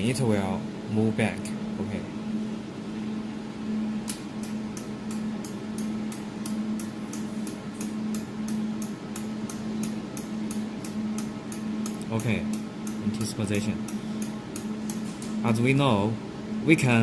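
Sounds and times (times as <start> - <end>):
machine electrical hum: 0.0 - 17.0.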